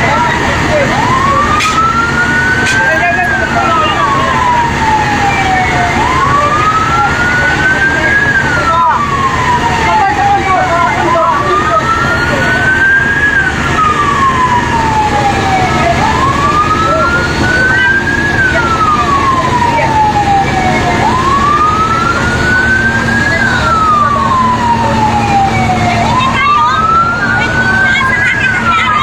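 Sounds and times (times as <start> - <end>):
fire truck siren wailing: 0.0 - 29.0.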